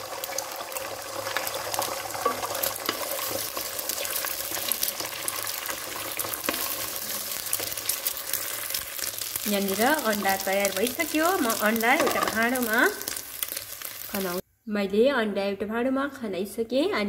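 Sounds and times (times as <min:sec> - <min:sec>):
egg sizzling in hot oil: 0:00.0 - 0:14.4.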